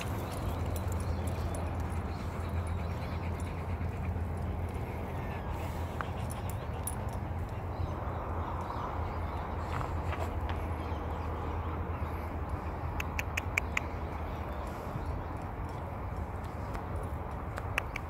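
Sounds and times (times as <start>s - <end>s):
steady low rumble: 0.0s - 17.8s
dogs panting: 0.0s - 18.0s.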